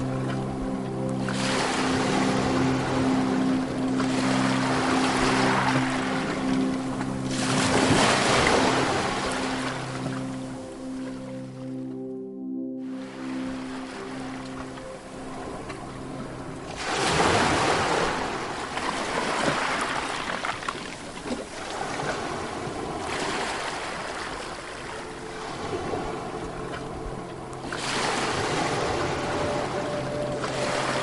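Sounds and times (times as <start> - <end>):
surf hissing and washing: 0.0 - 11.2, 13.1 - 31.0
sea waves breaking: 0.0 - 11.8, 12.9 - 31.0.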